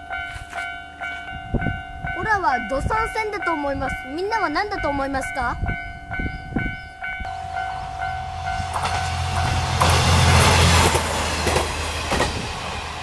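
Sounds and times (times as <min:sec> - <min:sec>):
level crossing bell clanging: 0:00.0 - 0:10.6
rushing rail noise: 0:00.0 - 0:13.0
train rumbling past: 0:00.0 - 0:13.0.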